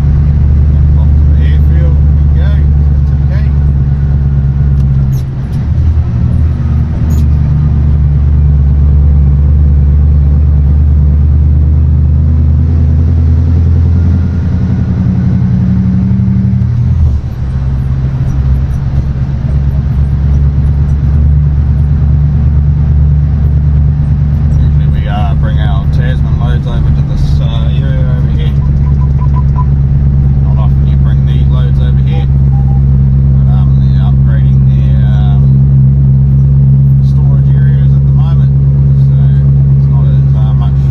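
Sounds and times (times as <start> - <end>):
truck diesel engine under load: 0.0 - 40.9.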